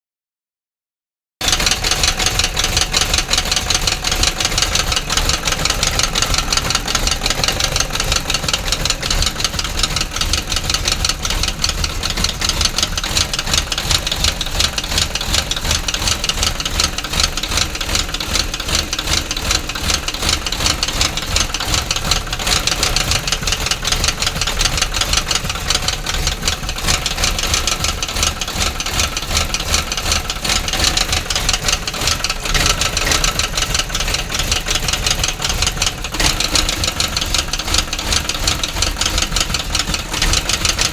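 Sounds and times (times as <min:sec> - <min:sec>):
engine idling with knocking clatter: 0:01.4 - 0:40.9.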